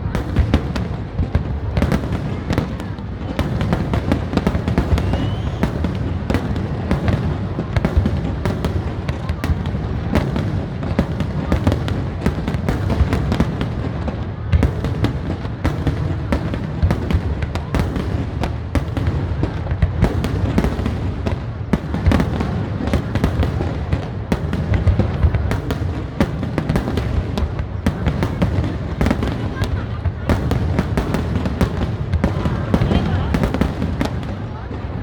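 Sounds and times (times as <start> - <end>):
fireworks bangs and booms: 0.0 - 35.0.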